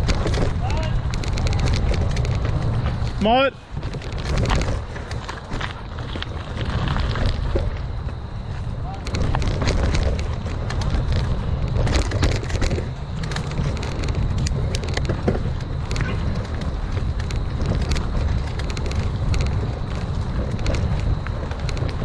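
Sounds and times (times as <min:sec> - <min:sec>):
bike clicks and rattles: 0:00.0 - 0:22.0
bike tyres rumbling on dirt: 0:00.0 - 0:22.0.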